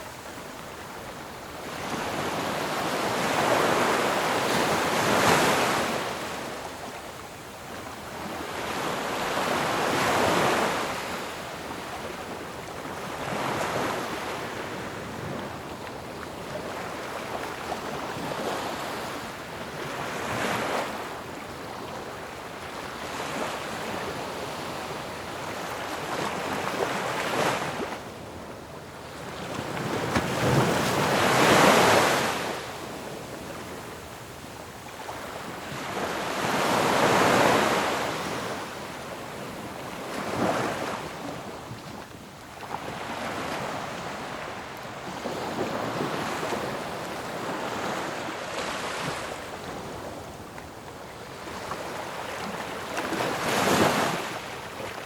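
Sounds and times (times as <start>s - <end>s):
ocean waves crashing on shore: 0.0s - 55.0s.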